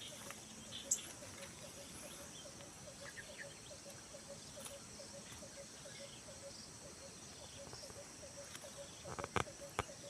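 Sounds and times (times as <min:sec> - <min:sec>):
faint high bird chirps: 0:00.0 - 0:10.0
insect drone: 0:00.0 - 0:10.0.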